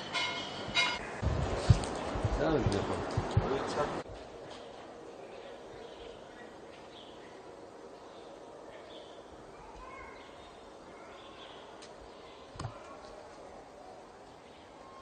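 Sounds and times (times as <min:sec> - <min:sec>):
birds chirping: 0:00.0 - 0:15.0
steady background hiss: 0:00.0 - 0:15.0.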